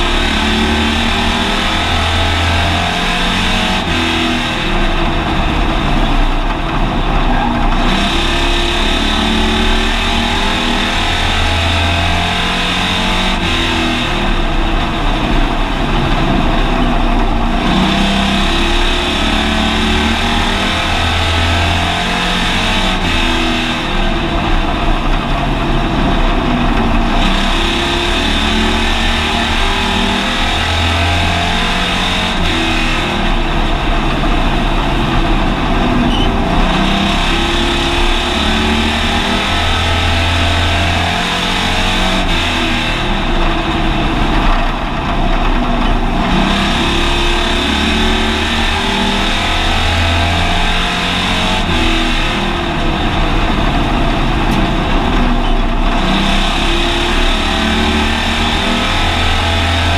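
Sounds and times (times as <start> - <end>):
race car engine running hard: 0.0 - 59.9
road and wind noise: 0.0 - 59.9.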